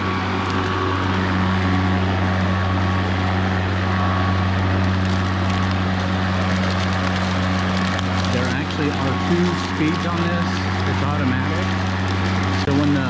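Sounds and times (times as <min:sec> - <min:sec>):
electric lawn mower humming: 0:00.0 - 0:13.0.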